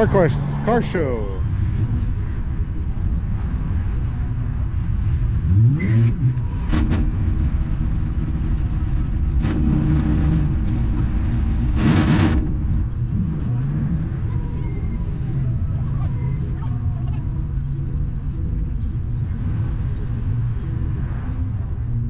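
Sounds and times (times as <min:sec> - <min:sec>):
engine running with low rumble: 0:00.0 - 0:22.0.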